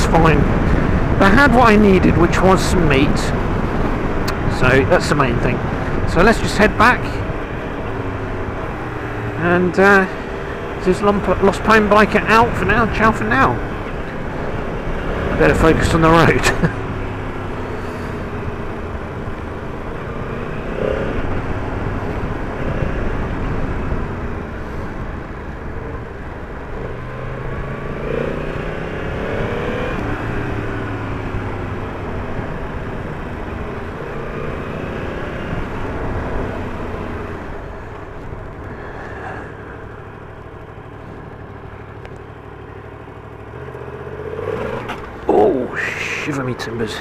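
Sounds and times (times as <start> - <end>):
motorcycle engine revving: 0.2 - 46.3.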